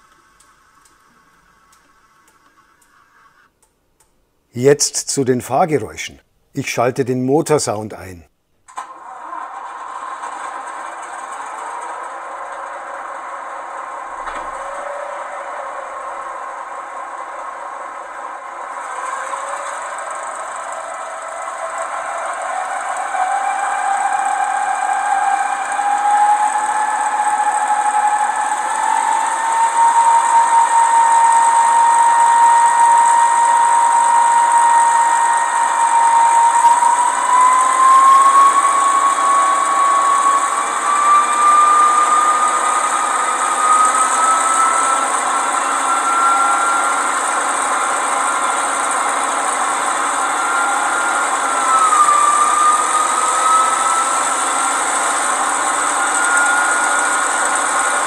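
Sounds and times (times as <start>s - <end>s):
model locomotive engine whine: 0.0s - 3.7s, 8.7s - 58.0s.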